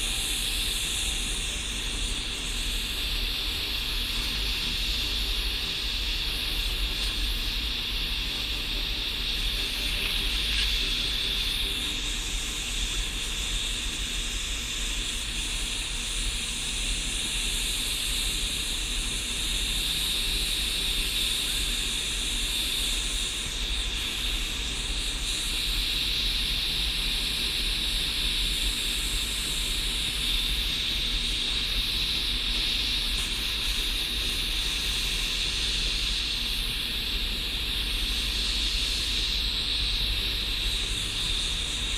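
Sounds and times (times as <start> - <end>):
blowtorch flame hissing: 0.0 - 41.9.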